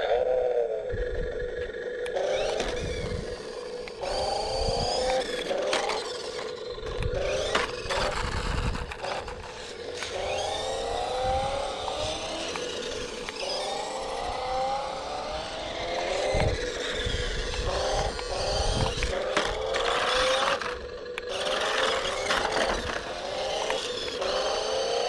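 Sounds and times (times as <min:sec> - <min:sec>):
toy electric motor whining: 0:00.0 - 0:25.0.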